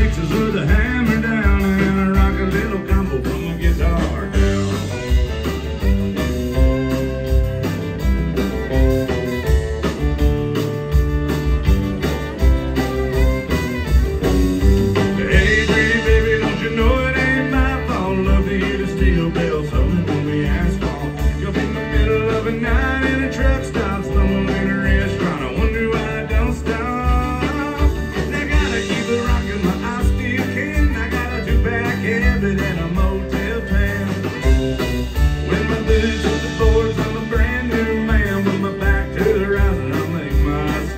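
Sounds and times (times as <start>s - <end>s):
acoustic and electric guitars: 0.0s - 40.9s
bending melody line: 0.0s - 40.9s
drums: 0.0s - 40.9s
fiddle: 0.0s - 40.9s
live country band playing: 0.0s - 40.9s.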